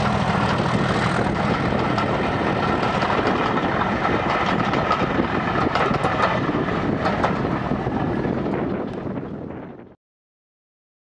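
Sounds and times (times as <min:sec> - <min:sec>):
wheels clicking on track: 0:00.0 - 0:09.4
train rumbling past: 0:00.0 - 0:09.9.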